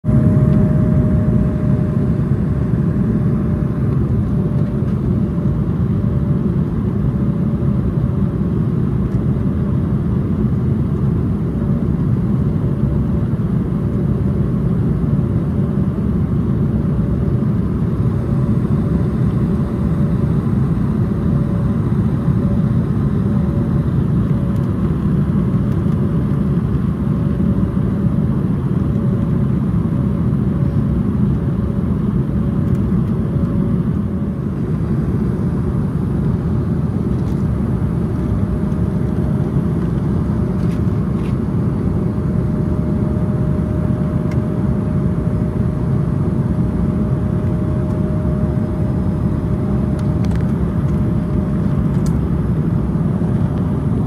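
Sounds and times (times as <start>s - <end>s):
jet engines: 0.0s - 54.0s
airliner cabin airflow rush: 0.1s - 54.0s
faint steady humming tone: 0.1s - 54.0s.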